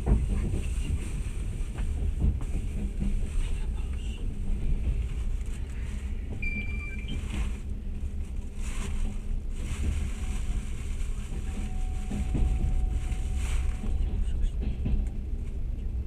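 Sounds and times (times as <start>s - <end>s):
low rumble and hiss of train: 0.0s - 16.0s.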